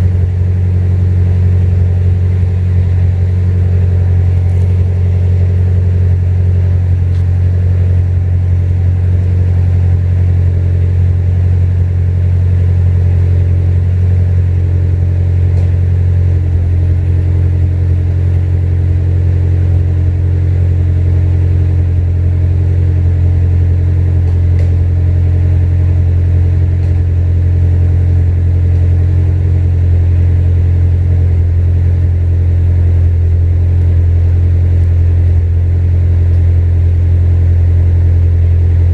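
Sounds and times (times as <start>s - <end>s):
car exhaust note steady engine: 0.0s - 38.9s.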